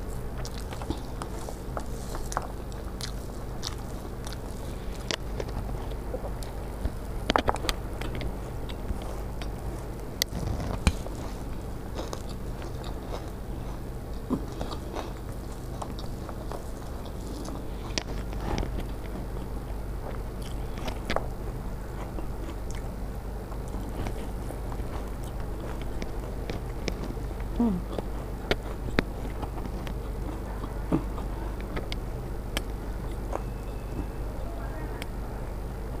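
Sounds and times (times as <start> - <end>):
chewing and crunching: 0.0 - 36.0
steady low hum: 0.0 - 36.0.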